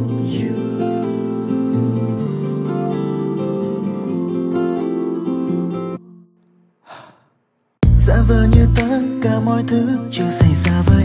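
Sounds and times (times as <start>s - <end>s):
acoustic guitar chords: 0.0s - 6.6s, 7.8s - 11.0s.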